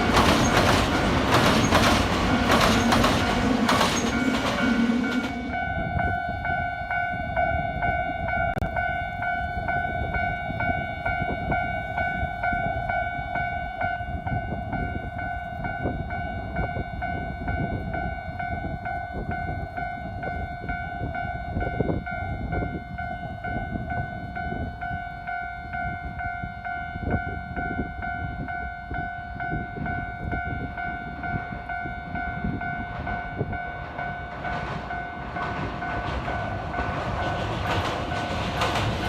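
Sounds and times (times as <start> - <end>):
level-crossing warning bell: 0.0 - 39.0
train rumbling past: 0.0 - 39.0.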